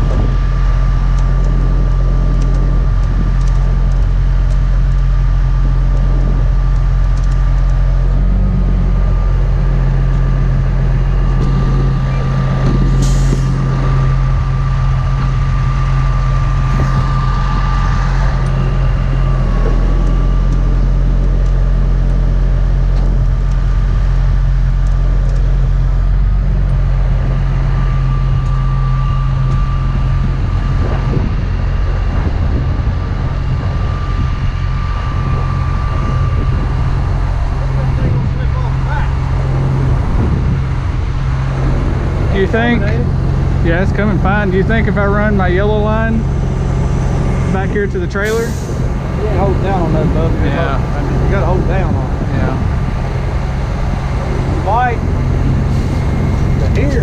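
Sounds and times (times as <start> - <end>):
diesel engine running: 0.0 - 57.0
thin high whine: 0.0 - 57.0.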